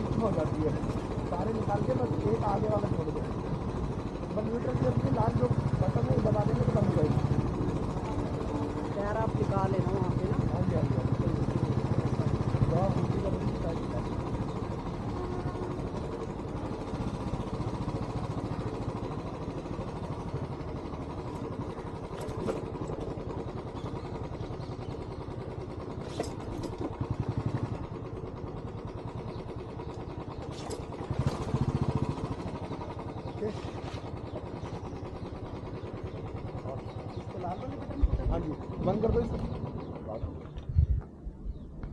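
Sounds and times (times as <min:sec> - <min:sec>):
motorcycle engine running steadily: 0:00.0 - 0:41.9.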